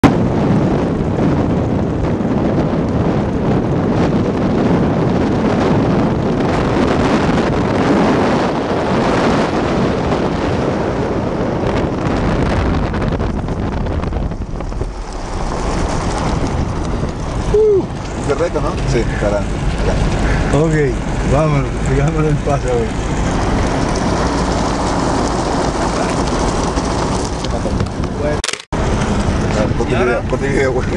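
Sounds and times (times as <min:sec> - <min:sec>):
moving vehicle rumble: 0:00.0 - 0:30.9
wind buffeting microphone: 0:00.0 - 0:30.9.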